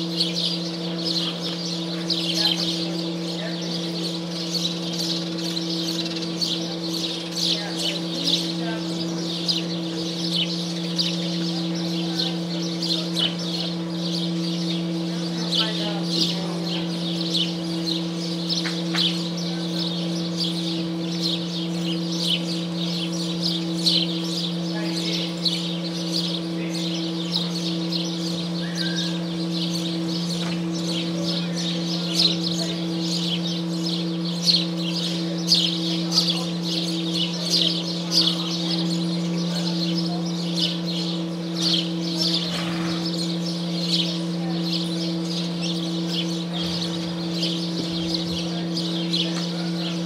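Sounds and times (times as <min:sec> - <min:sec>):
small birds chirping: 0:00.0 - 0:50.0
steady low hum: 0:00.0 - 0:50.0.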